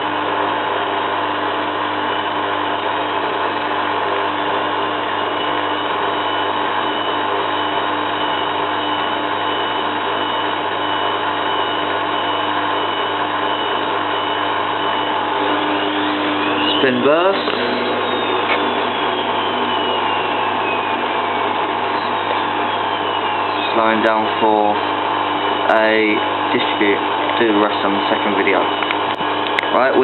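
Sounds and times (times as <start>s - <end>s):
washing machine drum spinning: 4.8s - 30.0s.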